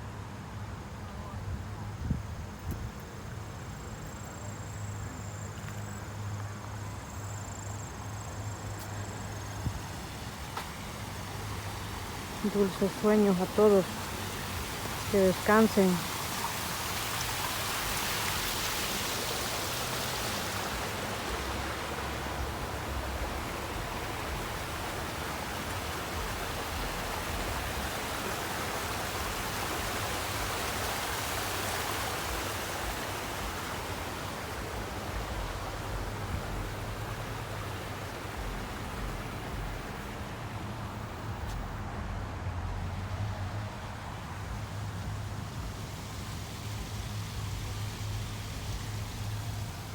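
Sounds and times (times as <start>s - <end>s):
water feature splashing: 0.0s - 49.9s.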